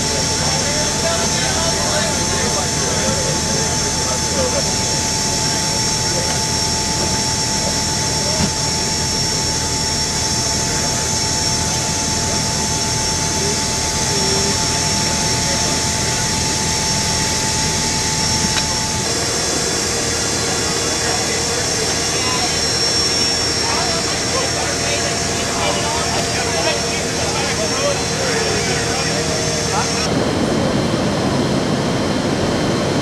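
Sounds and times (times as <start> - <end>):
constant high whine: 0.0 - 33.0
jet engines roaring: 0.0 - 33.0.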